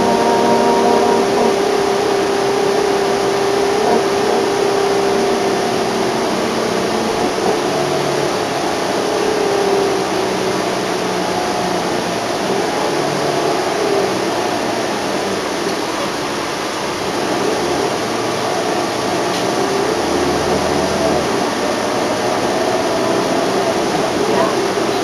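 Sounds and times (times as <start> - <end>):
bus engine whine: 0.0 - 25.0
road noise: 0.0 - 25.0.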